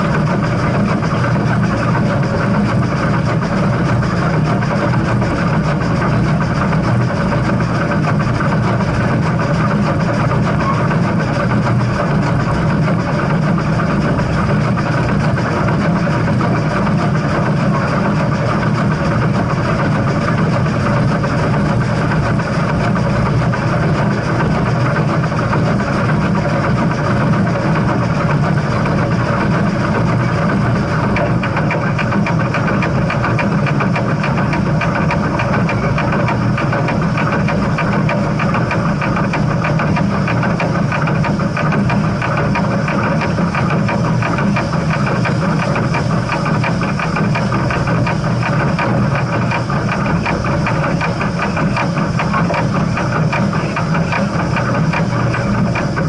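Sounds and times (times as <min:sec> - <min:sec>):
steam train rumble: 0:00.0 - 0:56.0.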